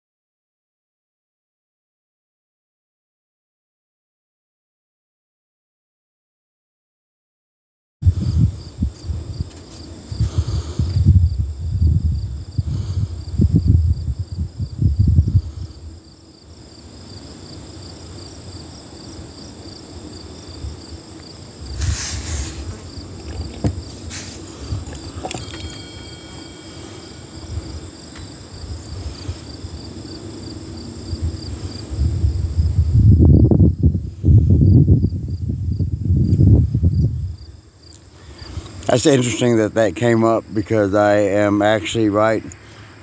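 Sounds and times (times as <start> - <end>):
insects chirping: 8.0 - 43.0.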